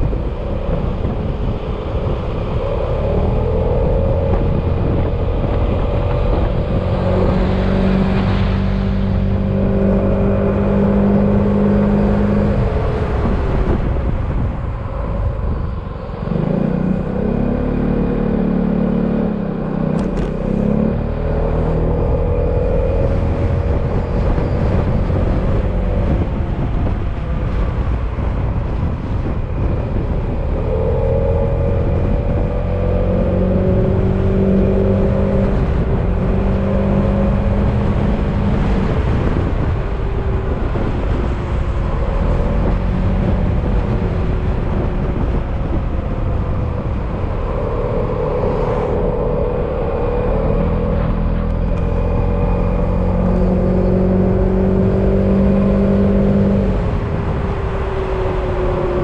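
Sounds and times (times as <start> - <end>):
wind and road rumble: 0.0 - 59.0.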